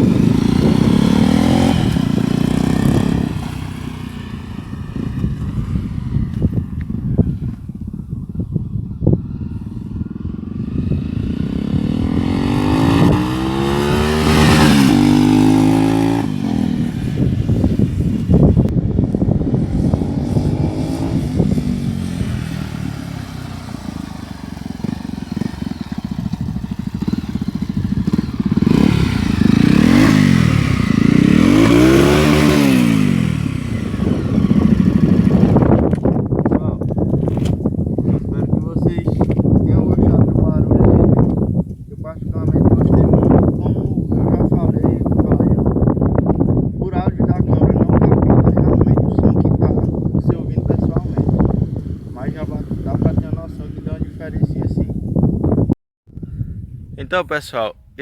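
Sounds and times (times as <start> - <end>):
motorcycle engine revving: 0.0 - 55.8.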